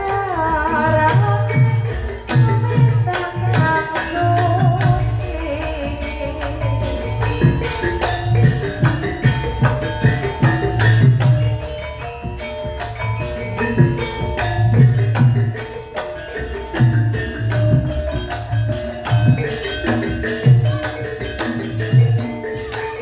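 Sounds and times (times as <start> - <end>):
metallophones ringing: 0.0 - 23.0.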